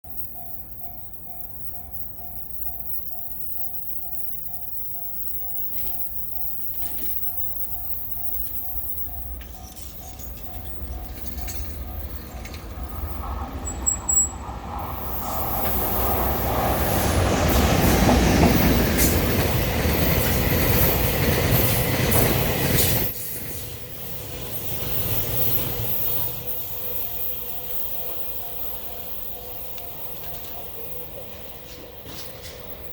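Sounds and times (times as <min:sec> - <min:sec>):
level crossing warning bell: 0:00.0 - 0:32.9
freight train wheels rumbling and clattering: 0:00.1 - 0:32.9.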